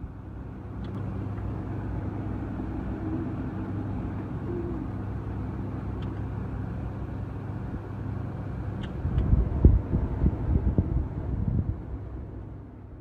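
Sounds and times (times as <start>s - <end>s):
irregular low buffeting: 0.0s - 13.0s
low engine-like rumble: 0.0s - 13.0s.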